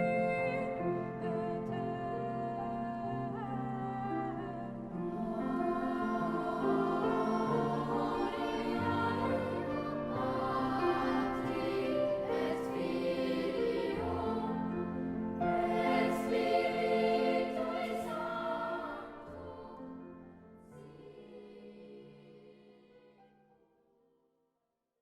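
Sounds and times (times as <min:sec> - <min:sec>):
choir singing long held notes: 0:00.0 - 0:23.4.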